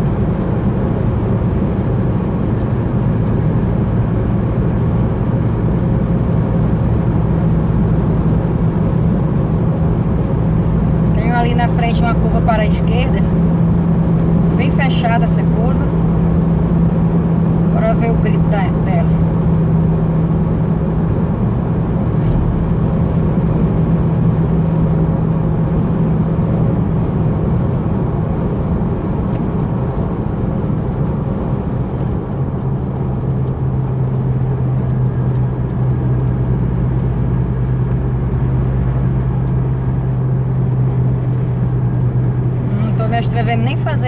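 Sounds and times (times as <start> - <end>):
droning truck hum: 0.0 - 44.0
road noise: 0.0 - 44.0.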